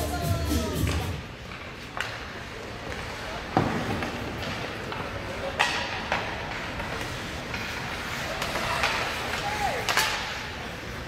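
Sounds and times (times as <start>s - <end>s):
hockey sticks knocking puck: 0.8s - 11.0s.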